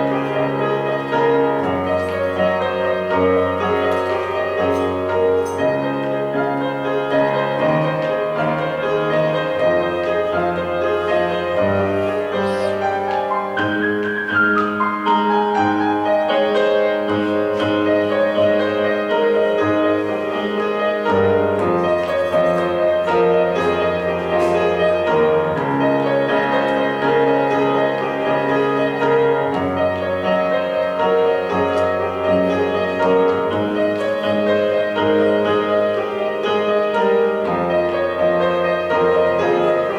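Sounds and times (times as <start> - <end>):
slow classical piano piece: 0.0 - 39.9.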